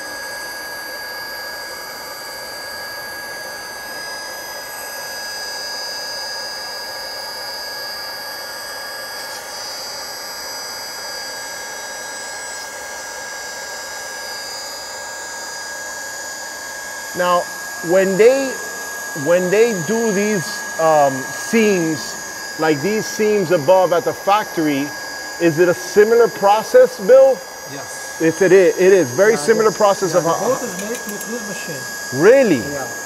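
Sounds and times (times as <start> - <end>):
hot-air blower whining and hissing: 0.0 - 33.0.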